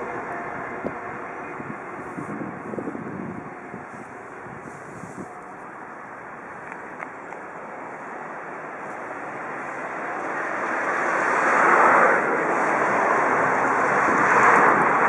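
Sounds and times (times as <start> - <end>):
cars passing by: 0.0 - 15.0.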